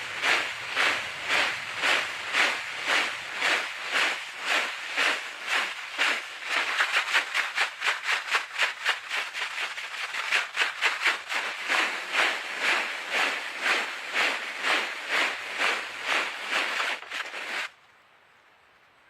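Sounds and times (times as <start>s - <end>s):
rhythmic dry shaking rustle: 0.0s - 17.8s.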